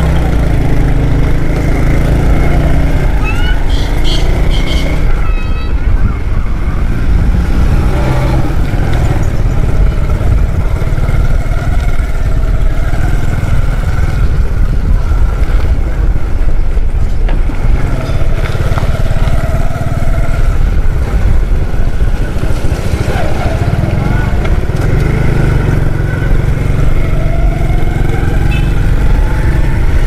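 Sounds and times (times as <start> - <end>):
low rumble of street noise: 0.0 - 30.0.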